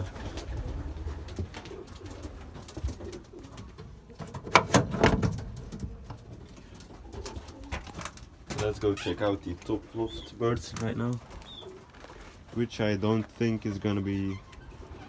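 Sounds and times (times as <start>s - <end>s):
pigeons cooing: 0.0s - 12.5s, 14.6s - 15.0s.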